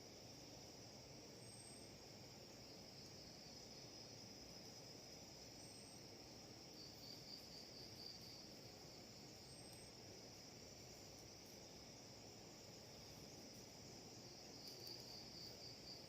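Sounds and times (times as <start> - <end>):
insects chirring: 0.0 - 16.0
low background hiss: 0.0 - 16.0.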